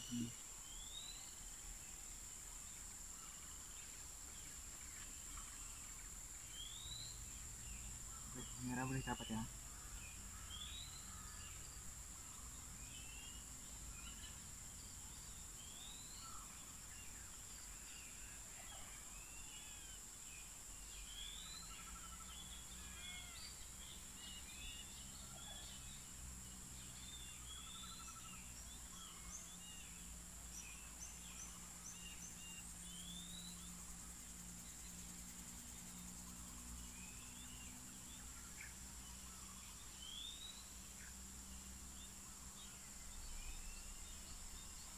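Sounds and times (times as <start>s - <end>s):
birds chirping: 0.0s - 1.9s, 2.6s - 20.0s, 20.8s - 41.2s
faint low hum: 0.0s - 44.9s
high-pitched insect drone: 0.0s - 44.9s.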